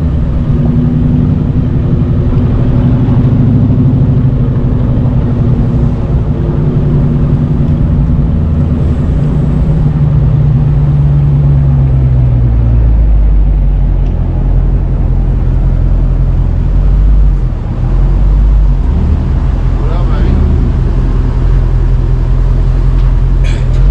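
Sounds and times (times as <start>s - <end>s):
loud car engine idling: 0.0s - 23.9s.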